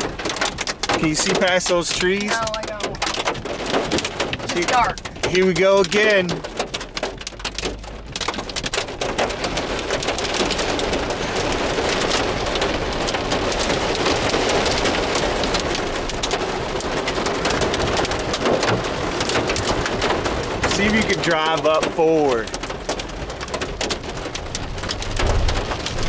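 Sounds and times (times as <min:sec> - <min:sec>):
heavy rain on car roof: 0:00.0 - 0:26.0
low road rumble: 0:00.0 - 0:26.0.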